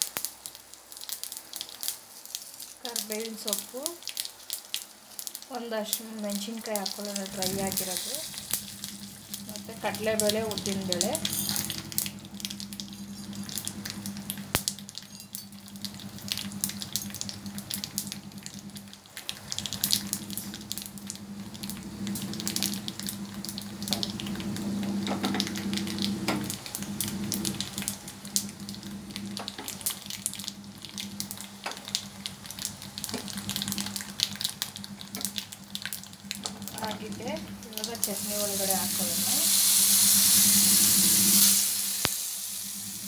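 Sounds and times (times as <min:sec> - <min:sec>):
hot oil sizzling and crackling: 0:00.0 - 0:43.0
low hum: 0:06.6 - 0:43.0.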